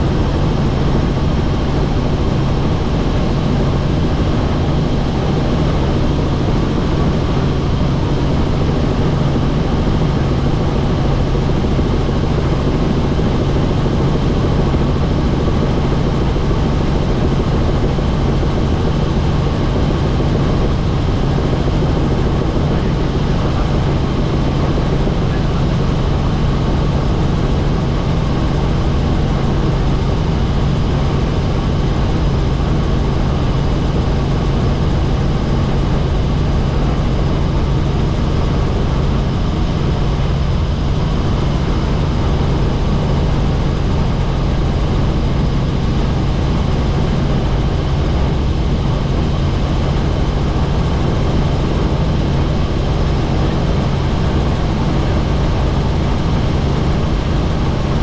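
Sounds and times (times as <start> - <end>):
helicopter engine and rotors: 0.0 - 58.0.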